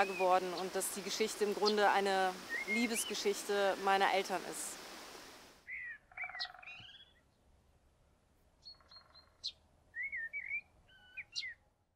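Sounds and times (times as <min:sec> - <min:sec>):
songbirds singing: 0:00.0 - 0:04.7, 0:05.6 - 0:07.5, 0:08.6 - 0:11.6.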